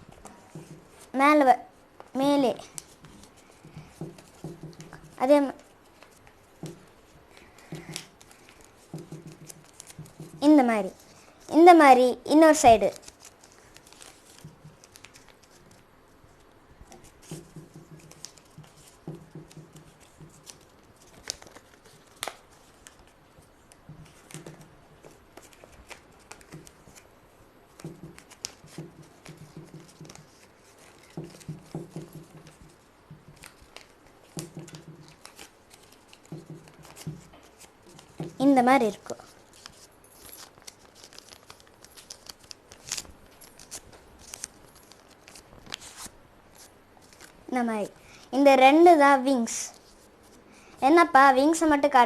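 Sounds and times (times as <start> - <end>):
paper rustling and crinkling: 2.0 - 27.1, 27.7 - 47.6.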